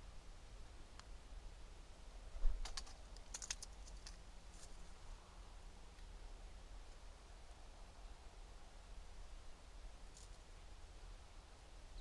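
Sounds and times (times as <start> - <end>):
faint low rumble with hiss: 0.0 - 12.0.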